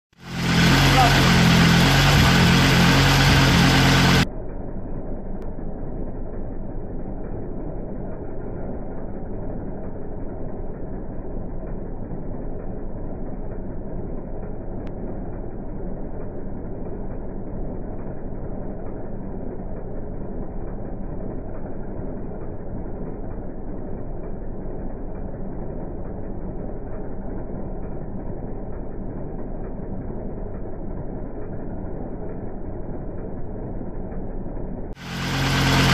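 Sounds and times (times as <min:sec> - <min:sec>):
car engine idling: 0:00.1 - 0:35.9.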